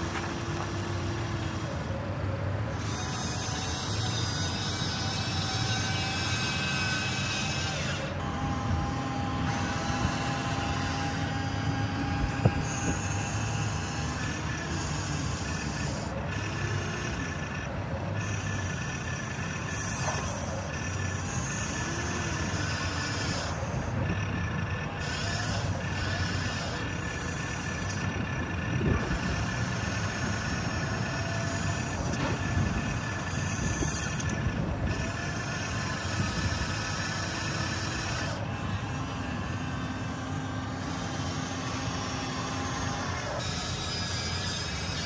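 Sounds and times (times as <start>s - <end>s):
steady mechanical rumble: 0.0s - 45.0s
electric motor whines: 2.7s - 45.0s.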